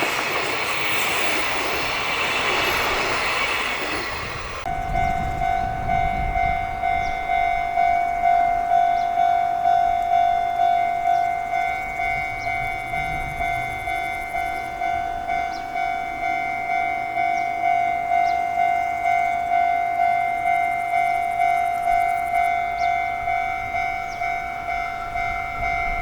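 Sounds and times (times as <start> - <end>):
level crossing alarm bell: 4.2 - 26.0.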